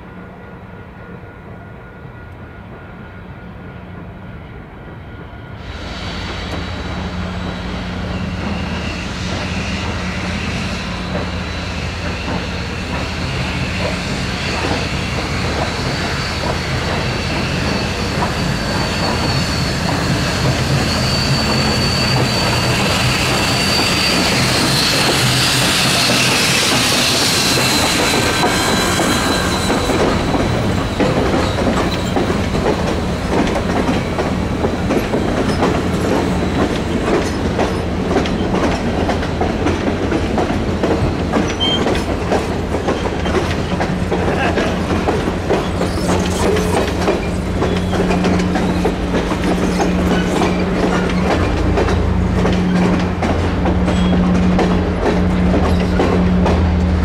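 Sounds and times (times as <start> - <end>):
train cars rolling past: 4.8 - 57.0
steam hissing: 5.6 - 53.6.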